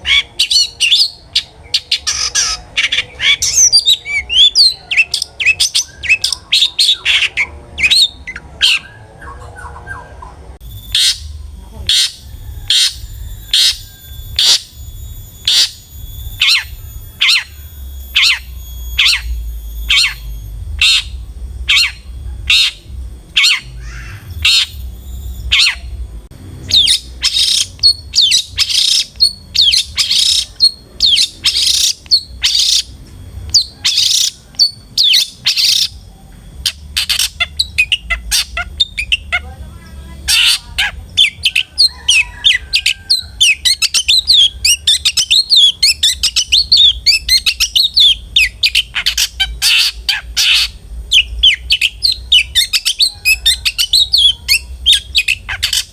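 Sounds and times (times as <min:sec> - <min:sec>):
shrike calling harsh scratchy notes: 0:00.0 - 0:09.2, 0:10.4 - 0:55.9.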